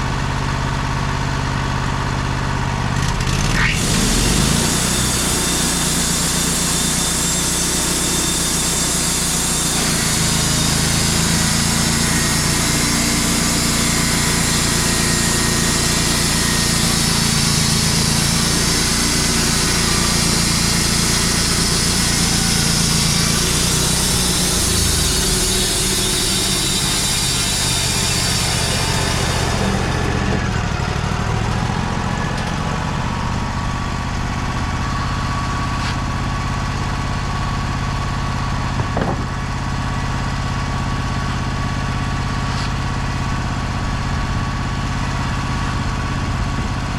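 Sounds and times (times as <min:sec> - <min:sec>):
engine humming under load: 0:00.0 - 0:46.9.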